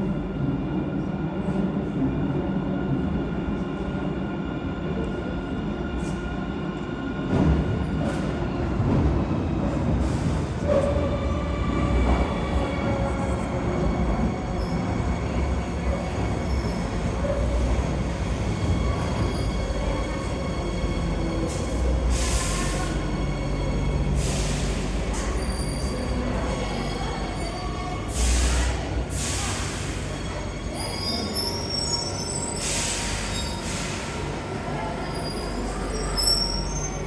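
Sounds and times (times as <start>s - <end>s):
underground train rumbling: 0.0s - 37.0s.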